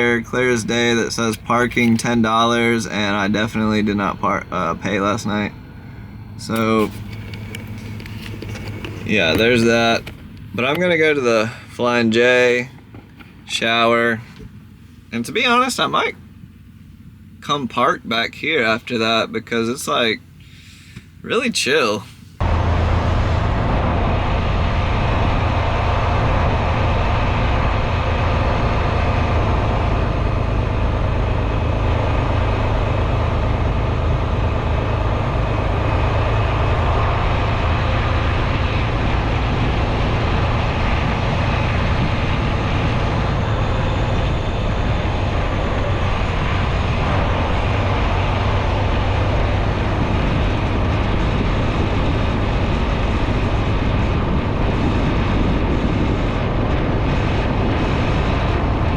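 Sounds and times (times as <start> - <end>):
road noise: 0.0 - 58.9
truck diesel engine drone: 0.0 - 58.9.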